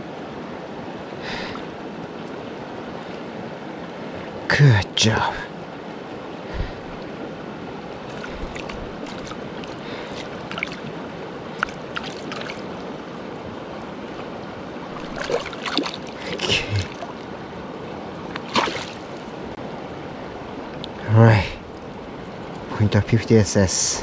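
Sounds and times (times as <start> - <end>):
creek flowing over rocks: 1.1 - 21.6.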